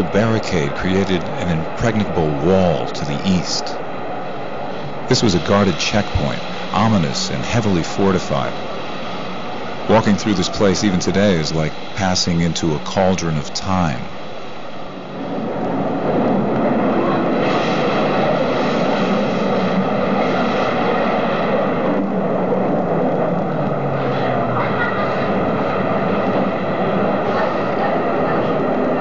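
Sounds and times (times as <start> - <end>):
low hum: 0.0 - 29.0
train rumbling: 0.0 - 29.0.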